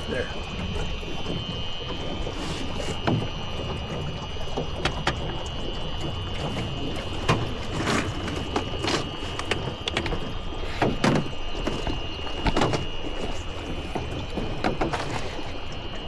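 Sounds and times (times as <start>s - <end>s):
knocks and clunks against hull: 0.0s - 16.0s.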